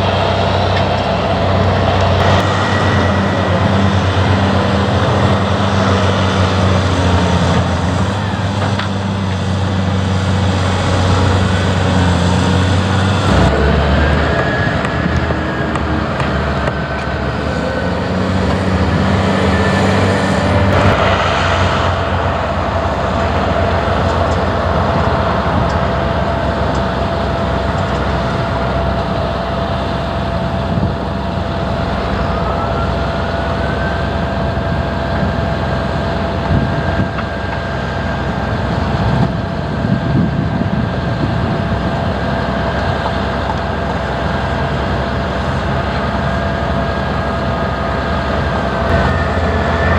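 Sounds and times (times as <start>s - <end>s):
diesel engine under load: 0.0s - 49.9s
high whines: 0.0s - 49.9s.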